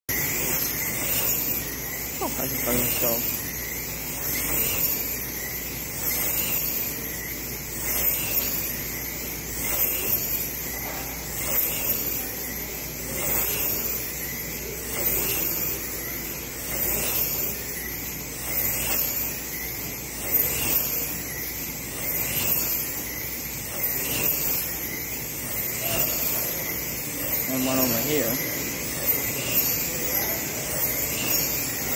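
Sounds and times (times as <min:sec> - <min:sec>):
slot car motors whining: 0:00.1 - 0:31.9.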